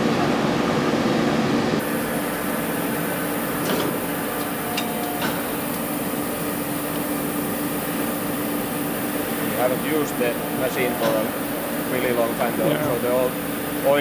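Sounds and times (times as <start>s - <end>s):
boring mill humming: 0.0s - 14.0s.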